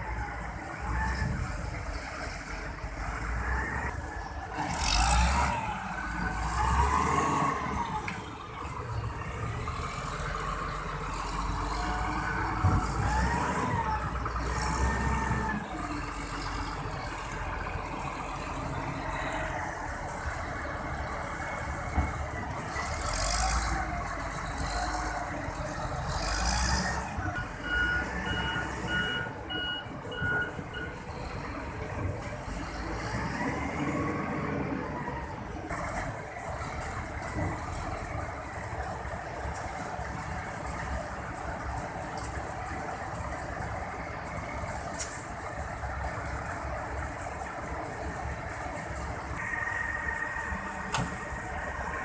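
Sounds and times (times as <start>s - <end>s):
excavator diesel engine: 0.0s - 52.0s.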